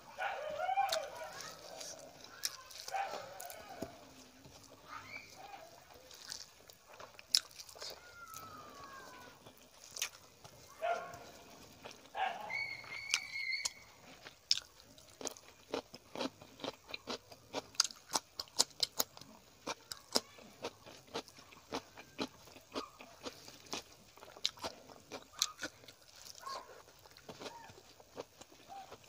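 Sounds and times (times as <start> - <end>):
wet crunchy chewing: 0.1 - 29.0.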